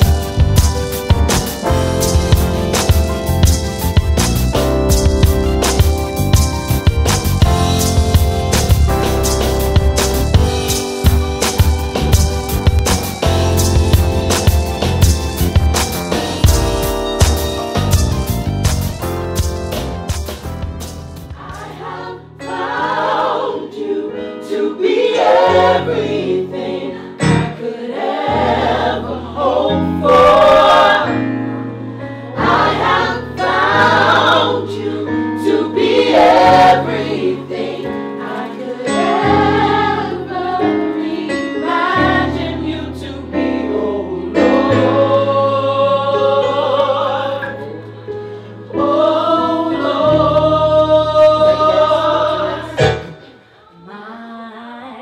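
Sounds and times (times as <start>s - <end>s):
gospel group singing in harmony: 0.0s - 19.0s, 21.2s - 54.2s.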